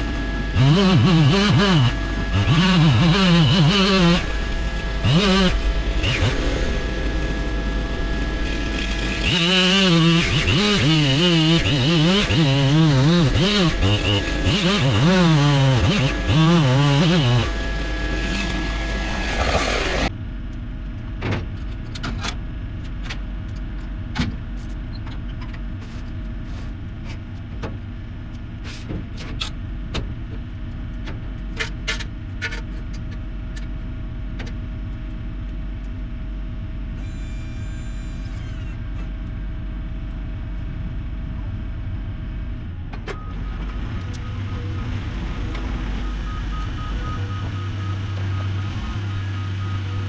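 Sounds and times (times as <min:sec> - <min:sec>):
vehicle engine rumbling: 0:00.0 - 0:50.0.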